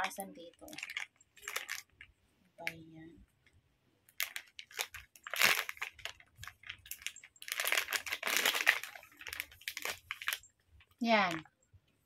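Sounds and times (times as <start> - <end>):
plastic wrapper crinkling: 0.0 - 2.8, 4.1 - 11.5.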